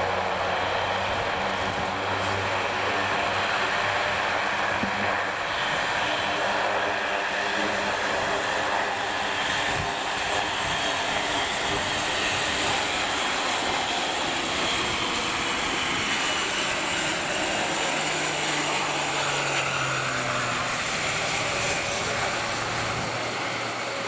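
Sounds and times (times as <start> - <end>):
propeller aircraft engines running: 0.0 - 24.0.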